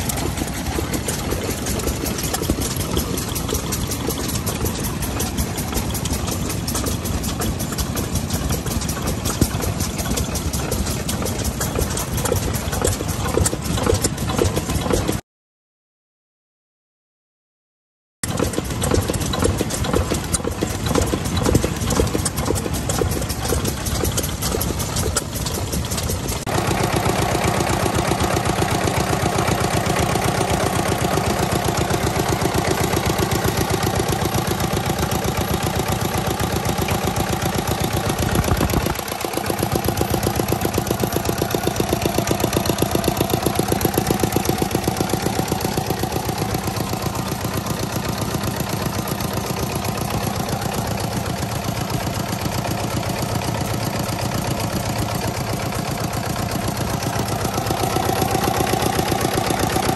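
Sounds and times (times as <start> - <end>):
diesel engine running: 0.0 - 15.2, 18.2 - 59.9.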